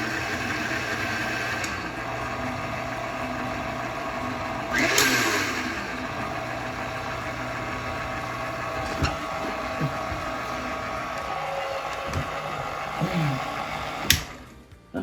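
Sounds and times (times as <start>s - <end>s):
stand mixer motor running: 0.0s - 14.5s.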